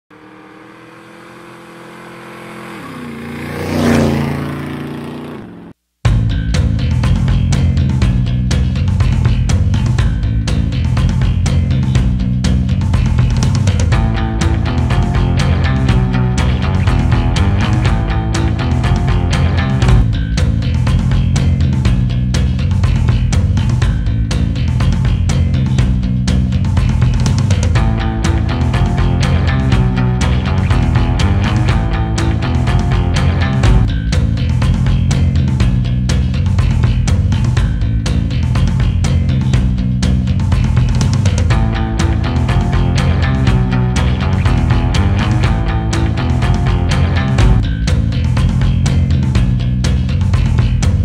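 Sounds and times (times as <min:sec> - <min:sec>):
motorcycle engine running: 0:00.1 - 0:51.0
rock music with drums and guitar: 0:06.1 - 0:51.0.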